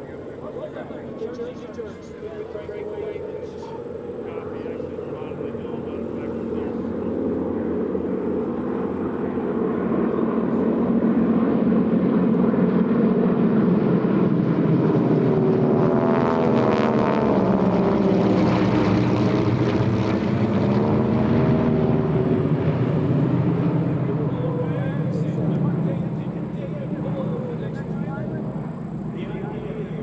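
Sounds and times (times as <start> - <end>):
propeller planes flying overhead: 0.0 - 30.0.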